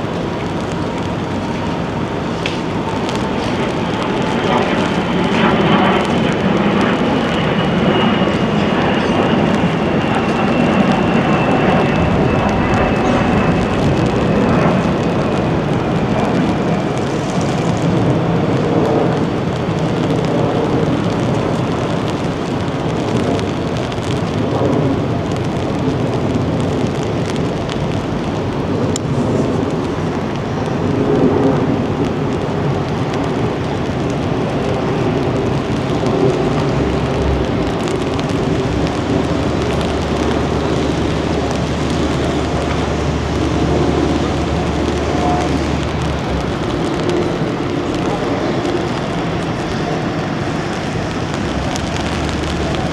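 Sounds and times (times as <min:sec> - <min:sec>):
rain falling: 0:00.0 - 0:52.9
wind buffeting microphone: 0:00.0 - 0:52.9.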